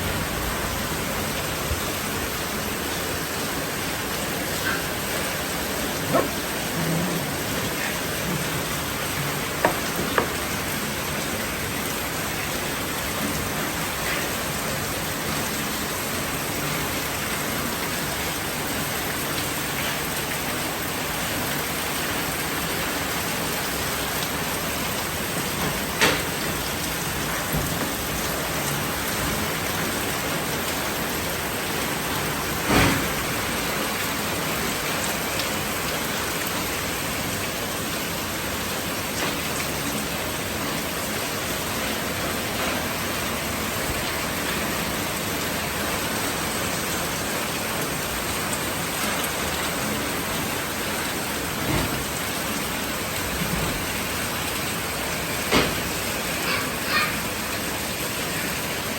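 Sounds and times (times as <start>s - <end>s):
rain hissing: 0.0s - 58.9s.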